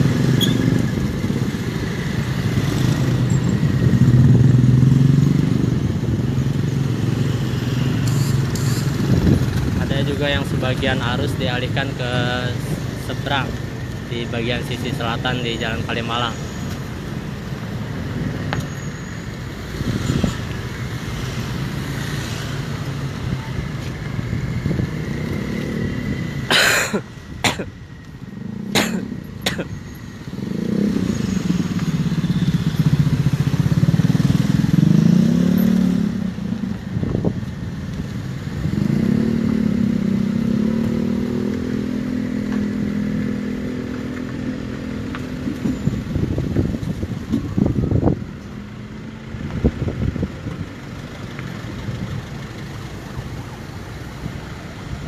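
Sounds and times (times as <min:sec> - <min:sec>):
motorcycle and car engines: 0:00.0 - 0:55.0.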